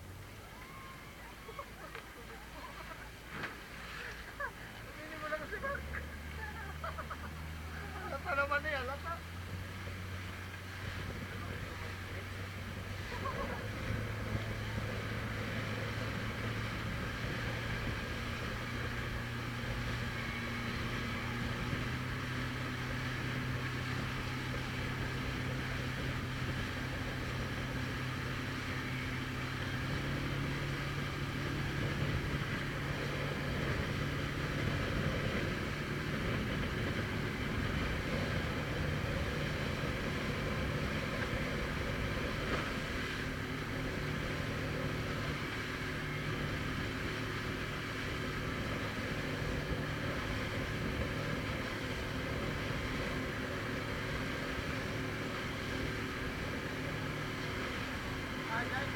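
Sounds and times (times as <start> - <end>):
constant hiss: 0.0 - 58.9
motorboat engine running: 0.0 - 58.9.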